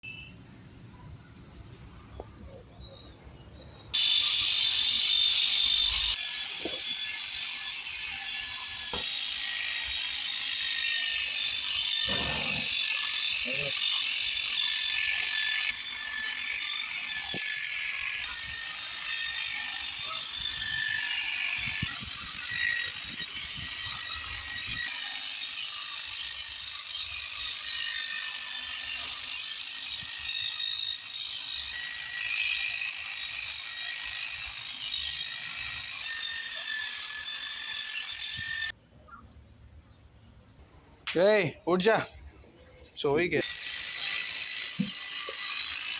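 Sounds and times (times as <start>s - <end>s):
electric shearing clippers buzzing: 4.0s - 38.7s, 43.4s - 45.9s.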